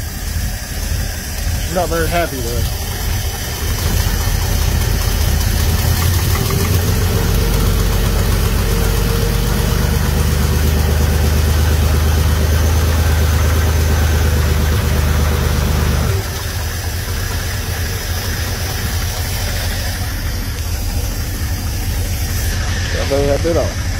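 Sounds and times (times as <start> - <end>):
truck engine running unsteadily: 0.0 - 23.9.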